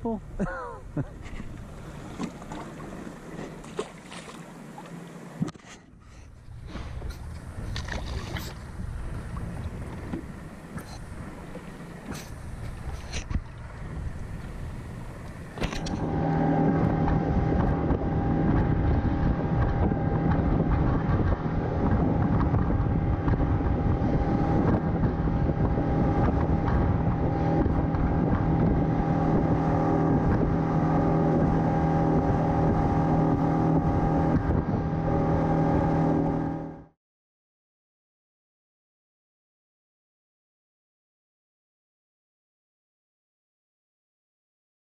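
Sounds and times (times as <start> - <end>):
wind and water rushing: 0.0 - 36.9
outboard motor running: 0.0 - 37.0.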